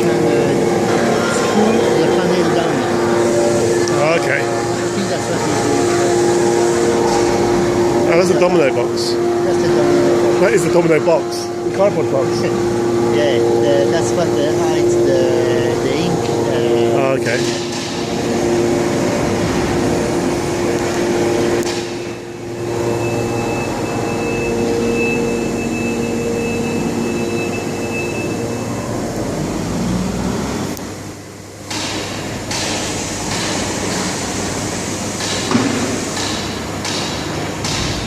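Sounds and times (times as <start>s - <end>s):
machine motors whining: 0.0s - 38.0s.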